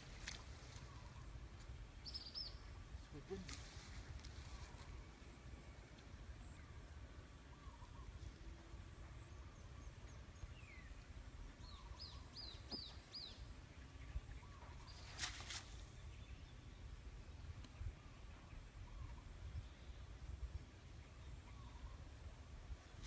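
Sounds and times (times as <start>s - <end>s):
faint birdsong: 0.0s - 23.0s.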